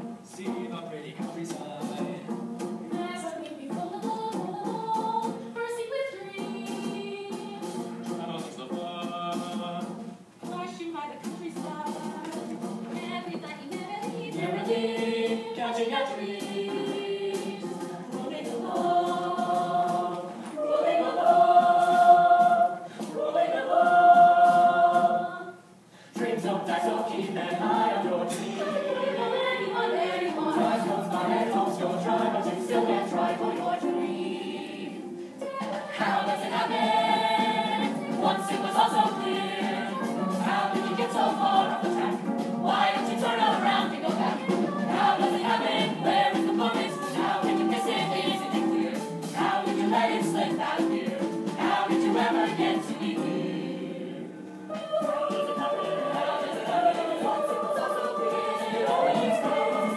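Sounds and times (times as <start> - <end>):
chorus singing: 0.0 - 59.9.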